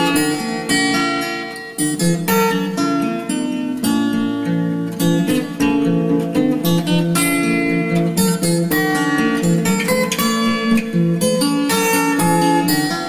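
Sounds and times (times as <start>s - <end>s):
plucked acoustic guitar music: 0.0s - 13.0s.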